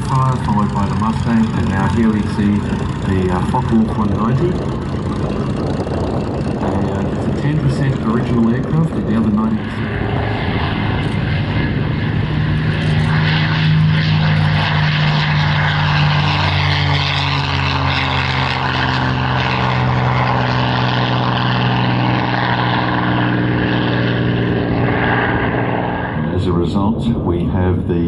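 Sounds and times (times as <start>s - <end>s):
propeller plane piston engine: 0.0s - 28.0s.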